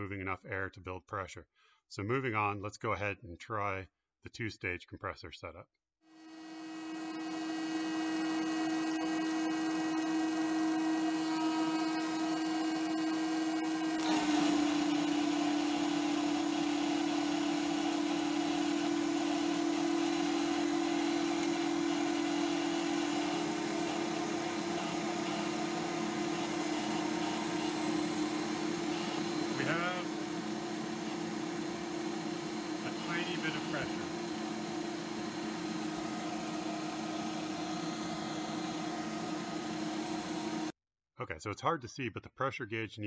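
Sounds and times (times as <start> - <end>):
compressor motor whine: 6.1 - 40.7.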